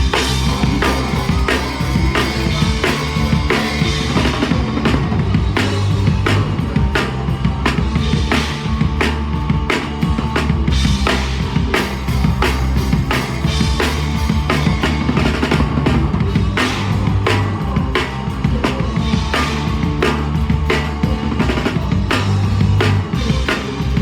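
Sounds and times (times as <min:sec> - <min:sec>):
drum kit beat: 0:00.0 - 0:24.0
rock band playing: 0:00.0 - 0:24.0.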